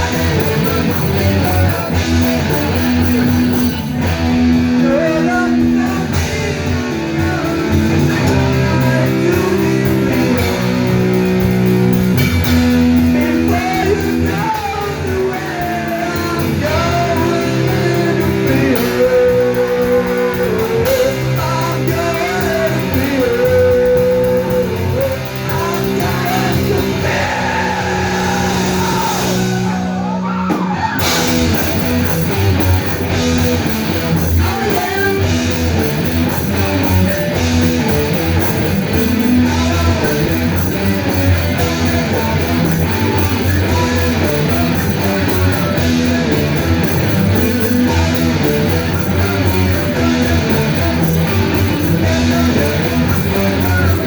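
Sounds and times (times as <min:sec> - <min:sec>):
live rock band playing loudly: 0:00.0 - 0:54.0.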